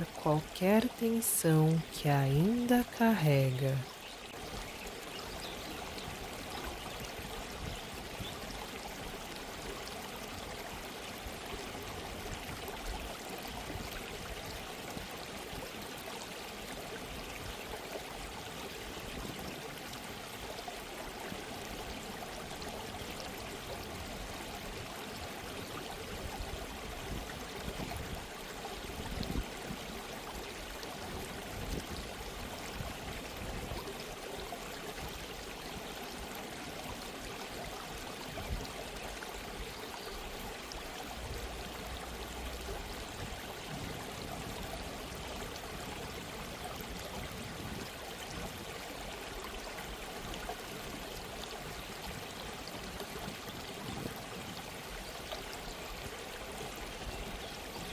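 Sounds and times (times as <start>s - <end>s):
stream babbling and trickling: 0.0s - 57.9s.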